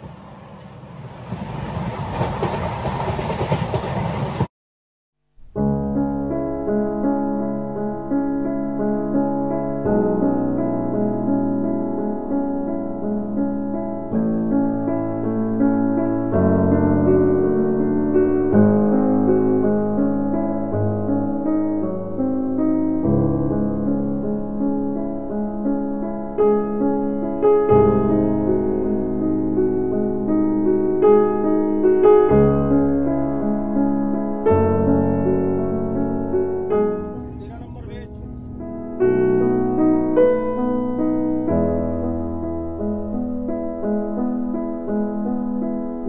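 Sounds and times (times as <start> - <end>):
slow piano chords: 5.4 - 46.0.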